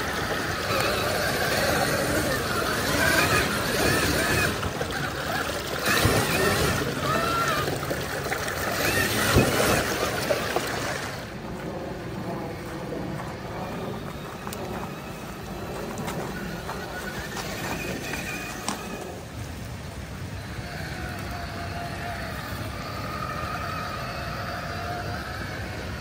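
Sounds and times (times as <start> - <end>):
toy truck electric motor running: 0.0 - 11.3, 11.9 - 26.0
creek water rushing and splashing: 0.0 - 26.0.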